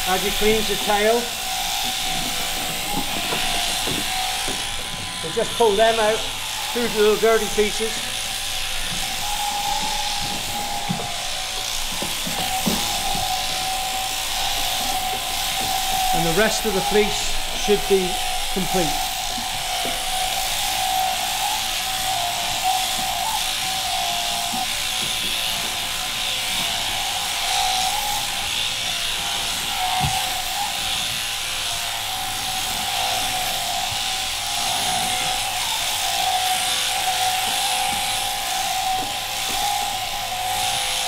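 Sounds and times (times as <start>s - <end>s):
electric shears buzzing: 0.0s - 41.0s.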